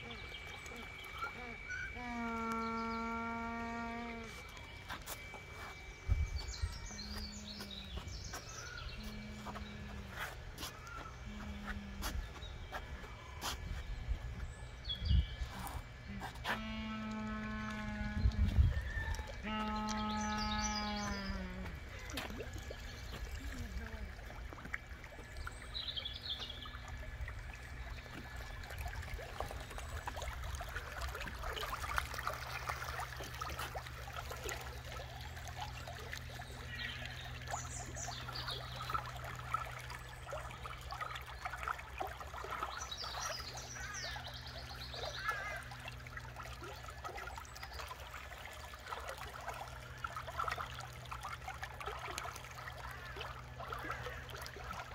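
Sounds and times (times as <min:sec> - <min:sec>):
steady low hum: 0:00.0 - 0:54.9
water splashing and trickling: 0:00.0 - 0:54.9.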